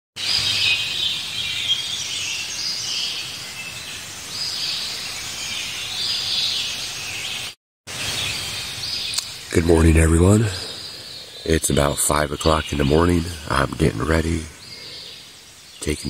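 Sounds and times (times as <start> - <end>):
birds singing: 0.2 - 16.0.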